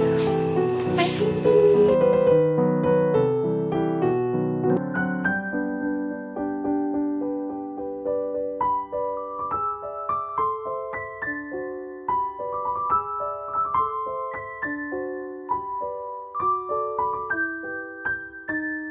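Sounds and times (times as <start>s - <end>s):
gentle piano music: 0.0s - 18.9s.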